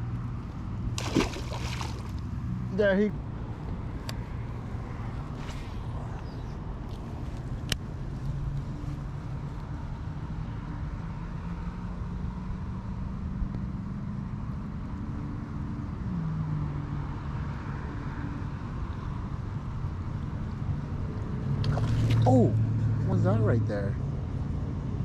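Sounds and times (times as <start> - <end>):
low rumble of traffic: 0.0 - 25.0
vehicle engine drone: 0.0 - 25.0.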